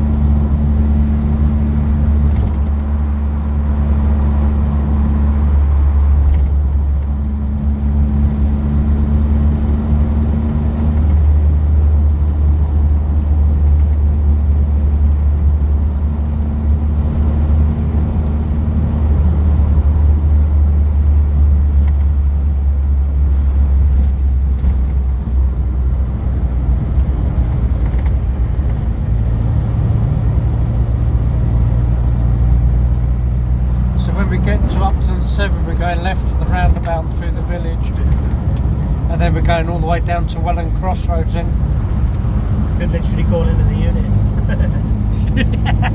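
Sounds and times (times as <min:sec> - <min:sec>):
car engine and road drone: 0:00.0 - 0:45.9.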